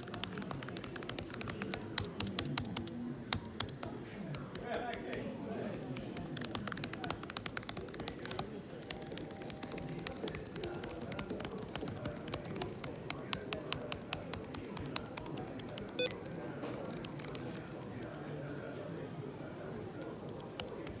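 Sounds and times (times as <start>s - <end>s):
laptop keyboard typing clicks: 0.0s - 19.0s, 19.9s - 21.0s.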